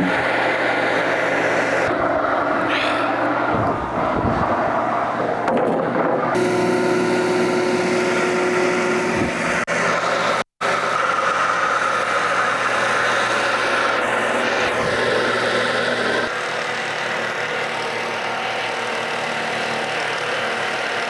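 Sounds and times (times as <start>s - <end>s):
sawmill engine running under load: 0.0s - 21.0s.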